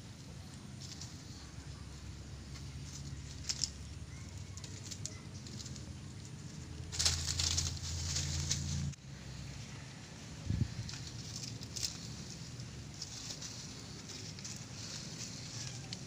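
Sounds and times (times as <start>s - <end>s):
leaves and stems rustling: 0.0s - 16.0s.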